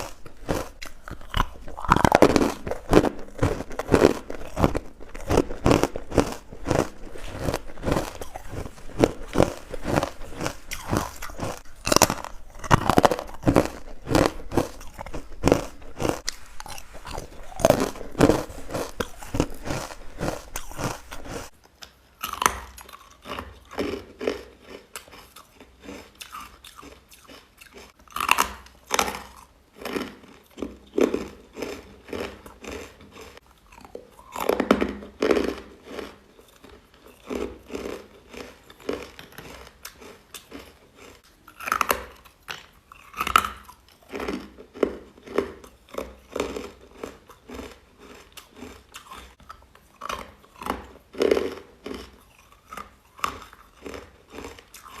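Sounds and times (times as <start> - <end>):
person chewing crunchy ice: 0.0 - 55.0.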